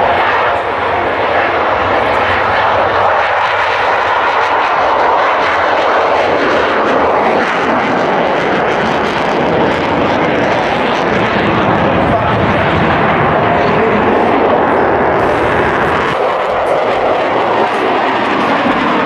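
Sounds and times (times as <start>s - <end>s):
jet engine on afterburner: 0.0s - 19.0s.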